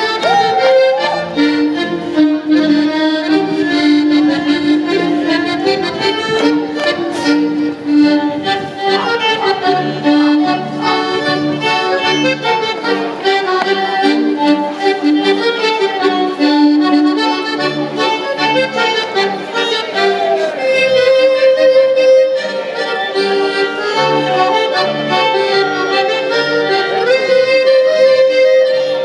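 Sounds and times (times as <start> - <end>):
double bass line: 0.0 - 29.0
folk dance music on fiddles: 0.0 - 29.0.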